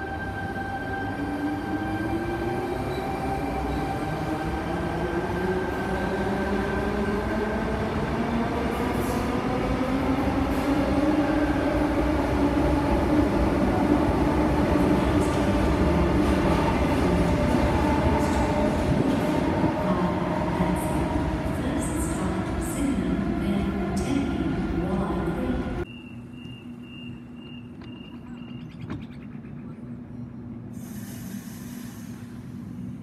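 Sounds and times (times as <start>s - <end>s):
rumble of train wheels: 0.0s - 33.0s.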